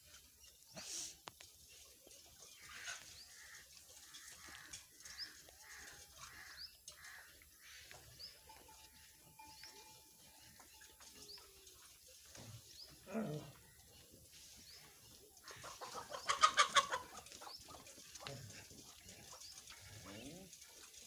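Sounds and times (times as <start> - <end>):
birds chirping: 0.2 - 20.5.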